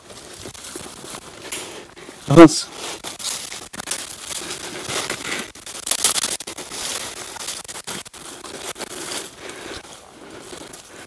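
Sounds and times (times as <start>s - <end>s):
crunching footsteps: 0.0s - 11.0s.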